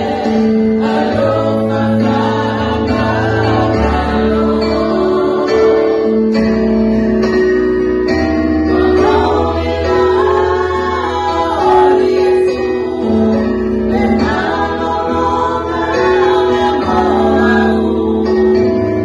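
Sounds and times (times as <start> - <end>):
women singing in harmony: 0.0 - 6.5, 8.7 - 19.0
guitar accompaniment: 0.0 - 19.0.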